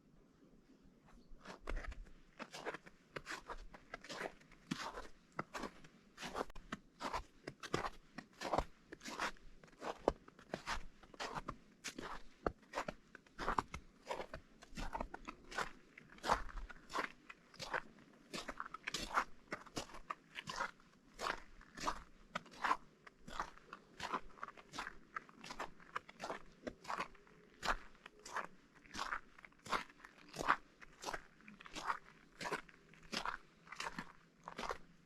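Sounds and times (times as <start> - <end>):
footsteps crunching on snow: 1.4 - 34.8.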